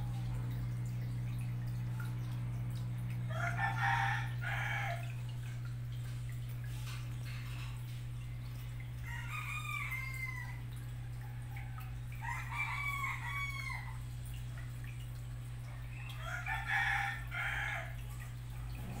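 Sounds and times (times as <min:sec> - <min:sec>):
aquarium equipment hum: 0:00.0 - 0:19.0.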